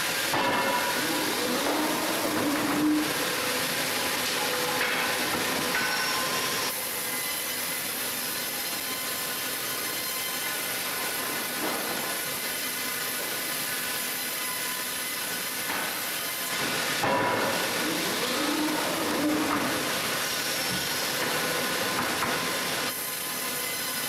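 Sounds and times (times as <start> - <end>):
power saw cutting wood: 0.0 - 24.0.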